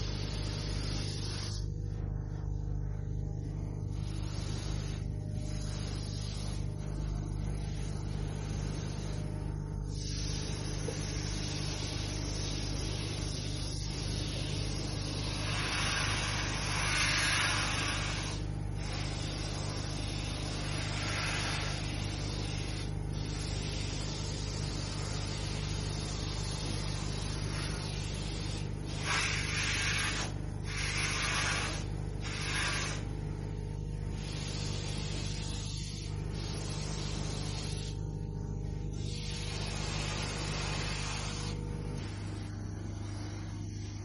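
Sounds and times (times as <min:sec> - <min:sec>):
spray wand hissing: 0:00.0 - 0:02.0, 0:03.3 - 0:44.0
low machine hum: 0:00.0 - 0:44.0.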